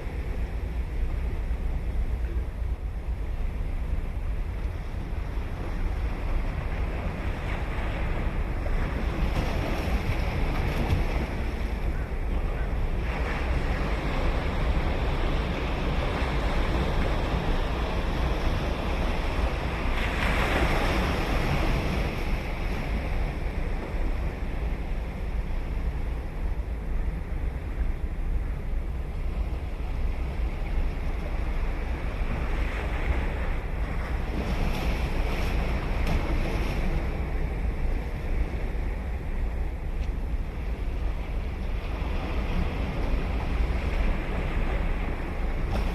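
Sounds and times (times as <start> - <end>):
low rumble of surf: 0.0 - 45.9
ocean waves breaking on beach: 4.4 - 28.4, 29.2 - 45.9.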